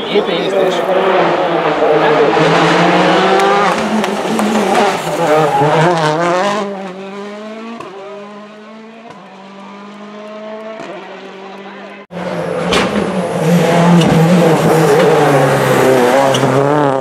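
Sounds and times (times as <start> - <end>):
rally car engine at high revs: 0.6 - 17.0.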